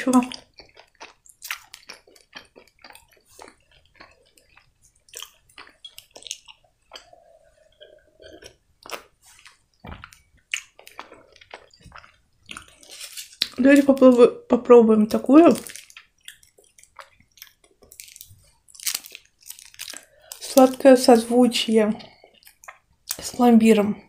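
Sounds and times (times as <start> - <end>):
person chewing candy: 0.0 - 14.2, 15.1 - 21.0, 21.9 - 23.4.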